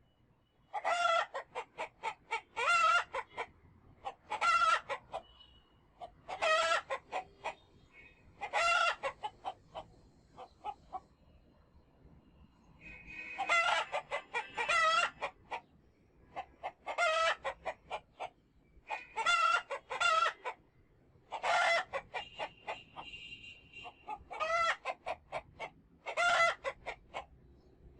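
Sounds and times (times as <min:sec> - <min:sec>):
chickens cackling and clucking: 0:00.7 - 0:11.2, 0:12.8 - 0:27.7.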